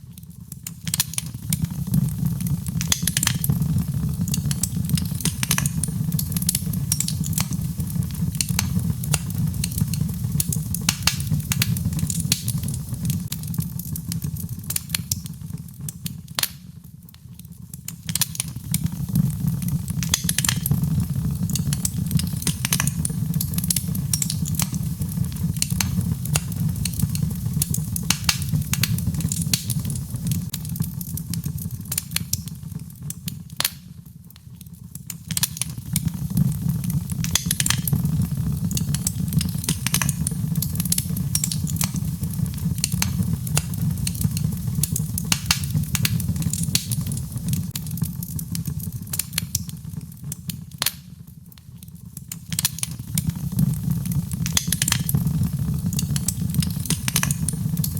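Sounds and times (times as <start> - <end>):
fire crackling and popping: 0.0 - 57.9
low rumble of flames: 0.1 - 57.9.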